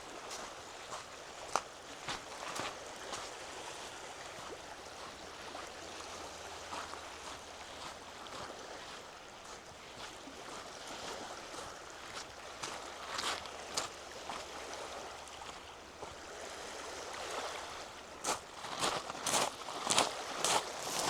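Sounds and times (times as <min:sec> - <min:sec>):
water washing on shore: 0:00.0 - 0:21.0.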